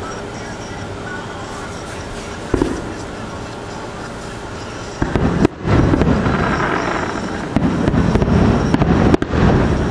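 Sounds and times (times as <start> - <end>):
fireworks exploding: 0.8 - 9.9.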